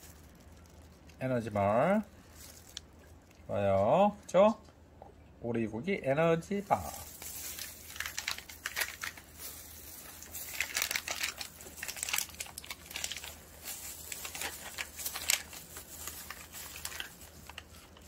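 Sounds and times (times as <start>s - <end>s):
plastic wrapper crinkling and tearing: 0.0s - 3.5s, 6.6s - 18.0s.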